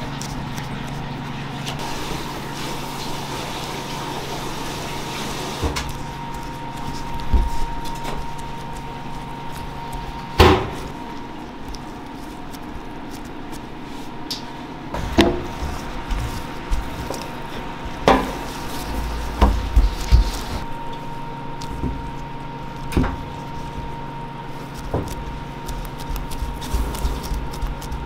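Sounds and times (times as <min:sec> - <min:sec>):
kitchen equipment hum: 0:00.0 - 0:28.0.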